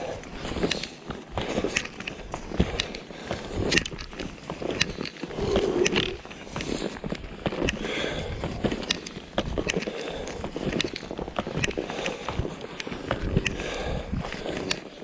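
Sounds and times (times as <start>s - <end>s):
ski gear crunching on snow: 0.0s - 15.0s.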